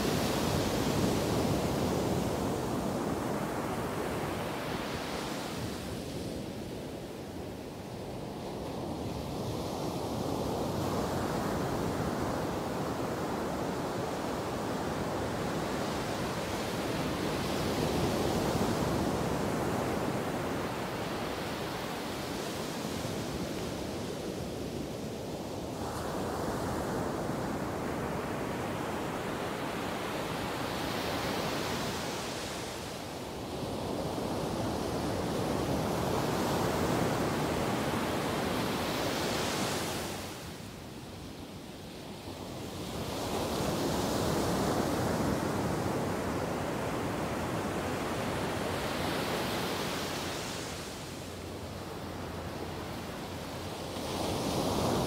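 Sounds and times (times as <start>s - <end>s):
ocean waves crashing on beach: 0.0s - 6.6s, 8.2s - 40.8s, 42.0s - 55.0s.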